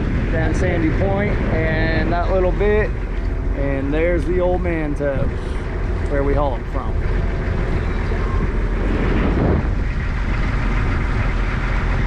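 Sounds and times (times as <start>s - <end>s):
boat engine running: 0.0s - 12.0s
water rushing: 0.0s - 12.0s
wind rushing: 0.0s - 12.0s.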